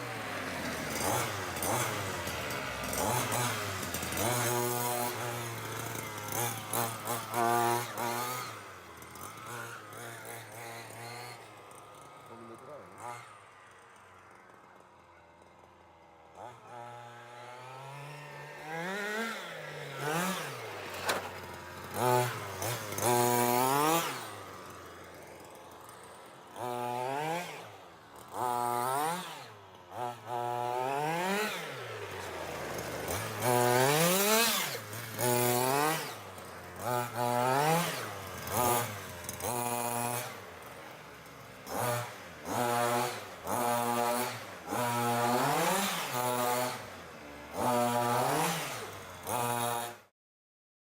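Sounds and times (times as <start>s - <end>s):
small two-stroke engine revving: 0.0s - 50.1s.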